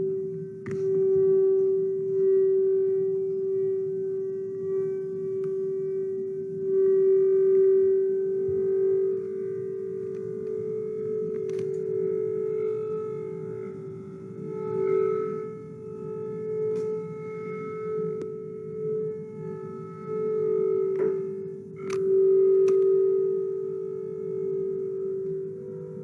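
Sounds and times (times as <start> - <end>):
singing bowls ringing: 0.0 - 26.0.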